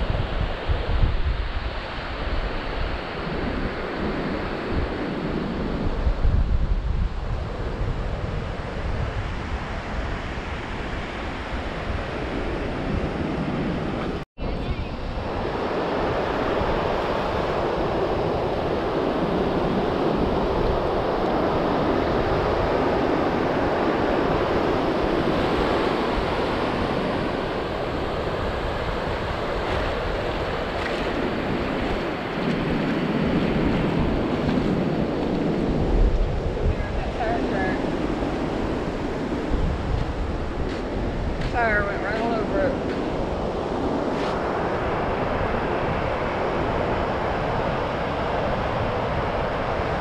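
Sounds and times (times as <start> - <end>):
ocean surf washing onto beach: 0.0 - 50.0
wind buffeting microphone: 0.0 - 50.0.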